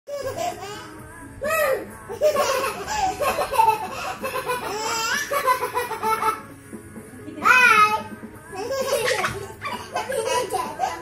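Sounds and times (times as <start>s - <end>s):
baby laughing: 0.1s - 6.5s, 7.4s - 11.0s.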